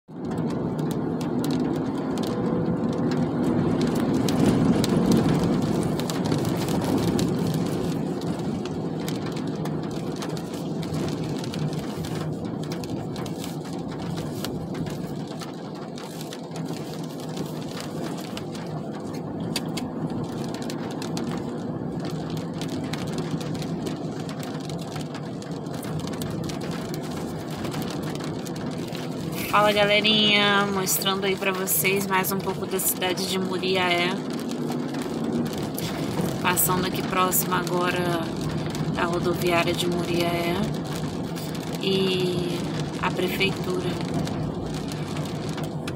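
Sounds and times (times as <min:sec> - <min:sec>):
car engine and tyre hum: 0:00.1 - 0:45.9
rain ticking on windscreen: 0:00.1 - 0:45.9.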